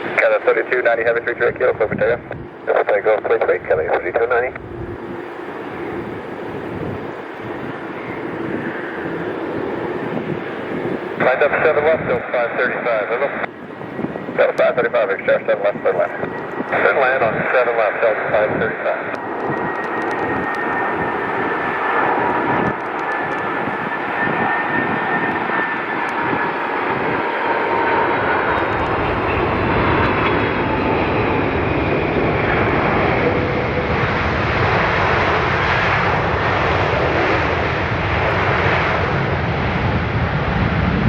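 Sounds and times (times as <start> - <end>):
jet engines roaring with whine: 0.0 - 41.0.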